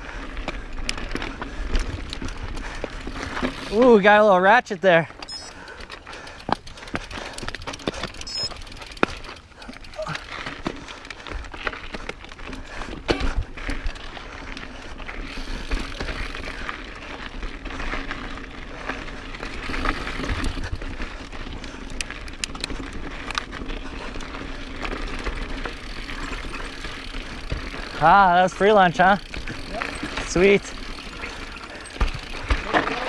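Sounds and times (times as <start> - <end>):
bike tyre trail noise: 0.0 - 33.0
bike knocking and rattling on rocks: 0.1 - 4.2, 5.0 - 33.0.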